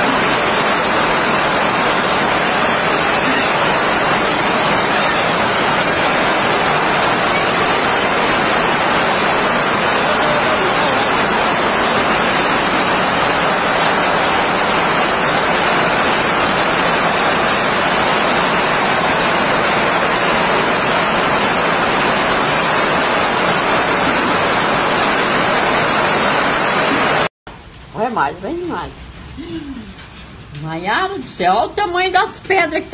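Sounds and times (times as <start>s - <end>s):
hailstones pelting down: 0.0s - 27.3s.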